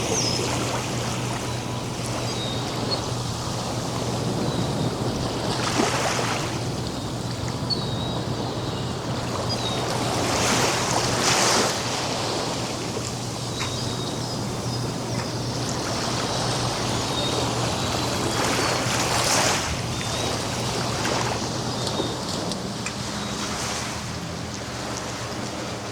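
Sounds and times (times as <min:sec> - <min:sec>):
ocean waves breaking on beach: 0:00.0 - 0:25.9.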